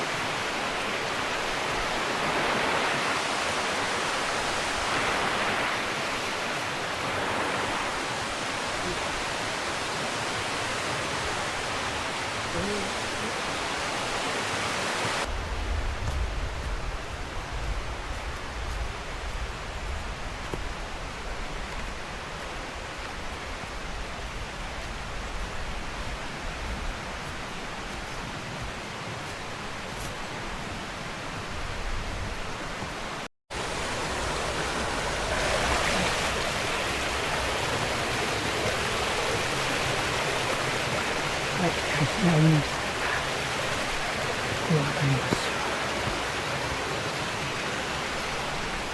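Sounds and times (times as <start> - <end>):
rushing mountain stream: 0.0 - 48.9.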